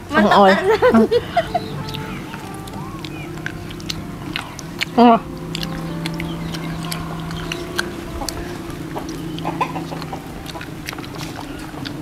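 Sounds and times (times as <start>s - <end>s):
people chewing: 0.0s - 12.0s
steady low hum: 0.0s - 12.0s.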